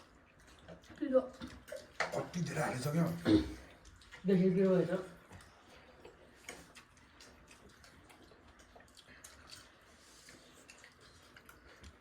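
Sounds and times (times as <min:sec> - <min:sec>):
faint eating clicks: 0:00.0 - 0:12.0.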